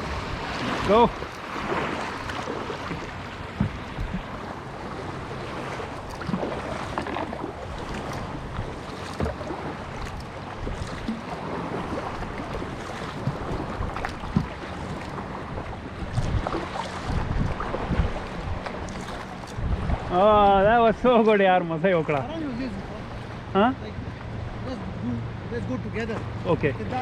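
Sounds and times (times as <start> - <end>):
paddle strokes: 0.0 - 27.0
waves slapping against hull: 0.0 - 27.0
wind buffeting microphone: 0.0 - 27.0.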